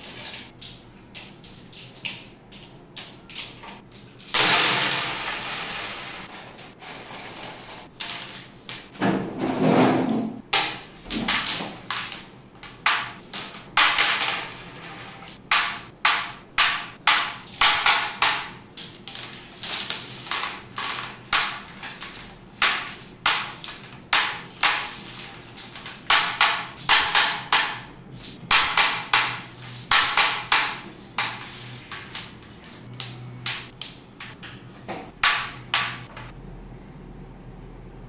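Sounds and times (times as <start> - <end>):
carrom pieces clacking: 2.6 - 8.9, 10.6 - 36.3.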